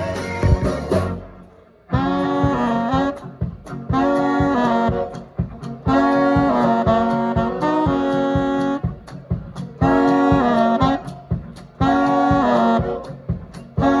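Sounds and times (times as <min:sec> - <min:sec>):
horn section riff: 0:00.0 - 0:14.0
live swing band music: 0:00.0 - 0:14.0.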